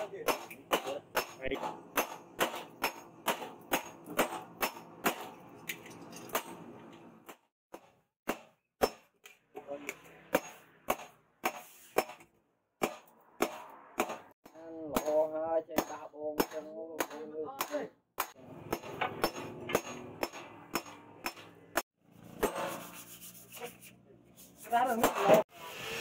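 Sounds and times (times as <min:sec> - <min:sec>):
hammer striking hot steel: 0:00.0 - 0:22.9.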